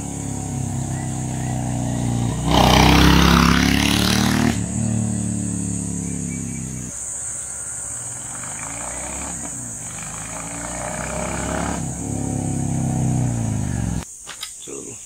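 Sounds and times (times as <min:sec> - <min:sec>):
motorcycle engine riding: 0:00.0 - 0:14.0.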